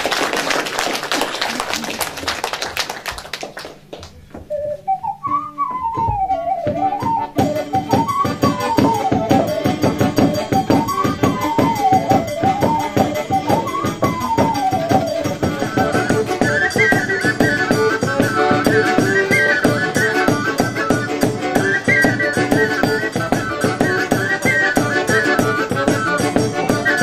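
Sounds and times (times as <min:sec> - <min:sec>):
flute-like melody: 0:04.4 - 0:27.0
fast rhythmic accompaniment: 0:04.6 - 0:27.0.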